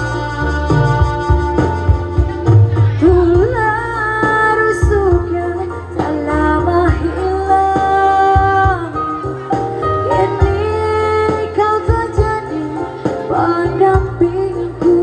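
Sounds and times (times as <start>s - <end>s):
instrumental accompaniment with bass: 0.0s - 15.0s
person singing: 2.8s - 15.0s.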